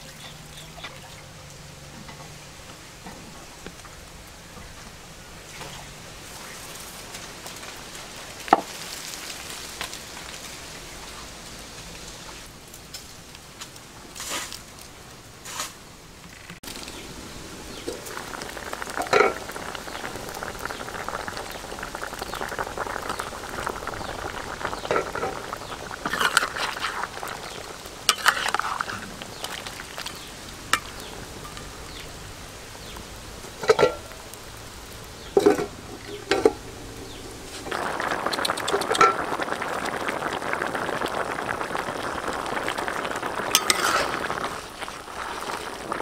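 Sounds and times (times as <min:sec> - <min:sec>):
broth bubbling and sizzling in wok: 0:00.0 - 0:46.0.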